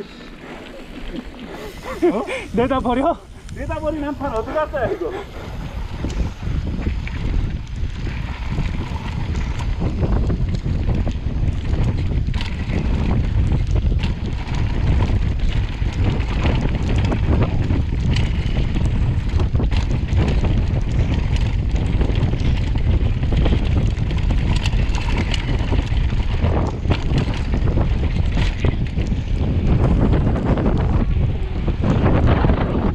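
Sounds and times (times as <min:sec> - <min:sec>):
bike rattling over bumps: 0:00.0 - 0:32.9
wind buffeting microphone: 0:00.0 - 0:32.9.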